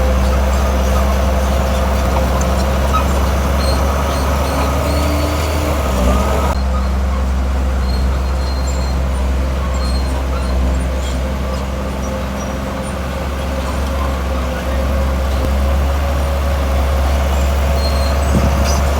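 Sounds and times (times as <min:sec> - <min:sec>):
diesel machinery engine drone: 0:00.0 - 0:18.9.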